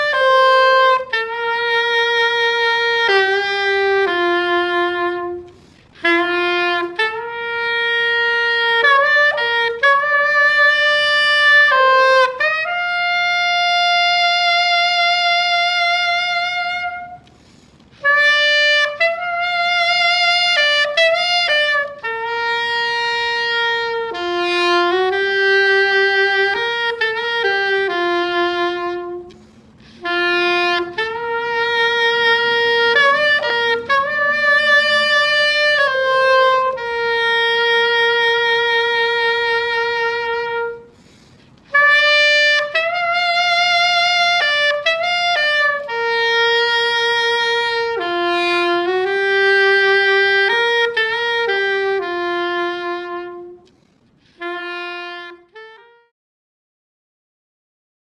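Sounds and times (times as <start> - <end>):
solo saxophone hymn melody: 0.0 - 56.2.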